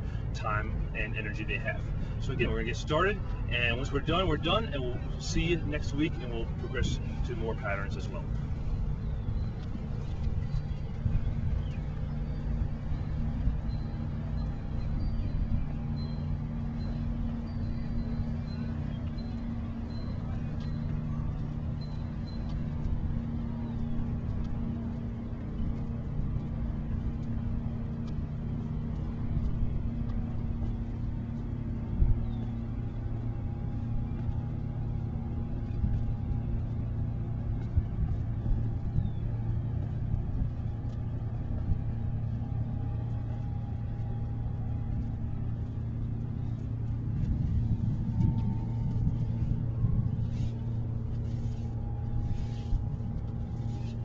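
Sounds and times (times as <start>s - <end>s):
humming tones shifting pitch: 0.0s - 54.0s
low rumble of engines: 0.0s - 54.0s.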